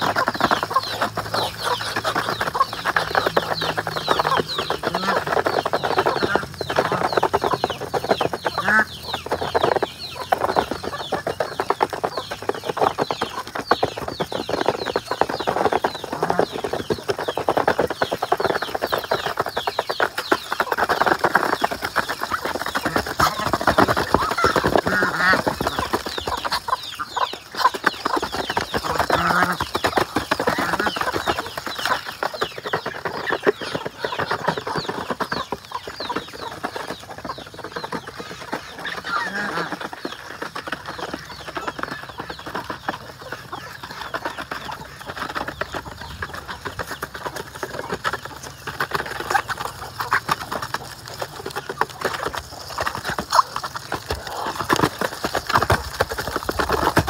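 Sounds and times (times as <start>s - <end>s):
duck bills pecking in plastic tub: 0.0s - 57.0s
ducks clucking and calling: 0.0s - 57.0s.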